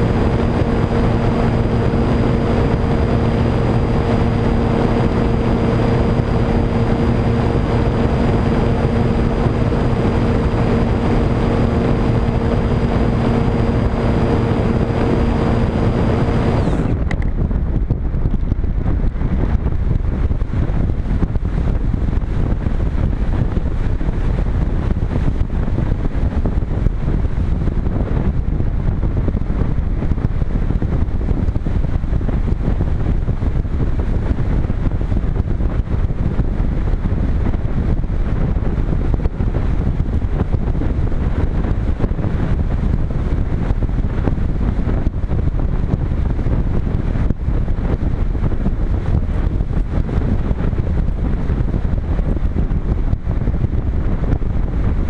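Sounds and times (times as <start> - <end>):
wind buffeting camera: 0.0 - 55.0.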